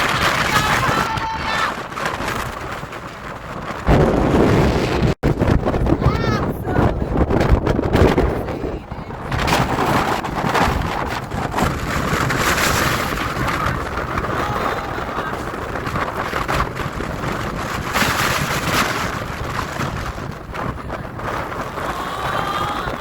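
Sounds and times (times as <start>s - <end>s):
storm wind blasting microphone: 0.0s - 23.0s
ocean surf rushing: 3.7s - 23.0s.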